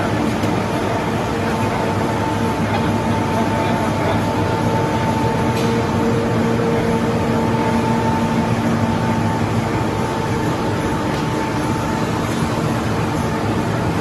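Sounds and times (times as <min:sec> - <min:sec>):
printing machine rumble and whine: 0:00.0 - 0:14.0.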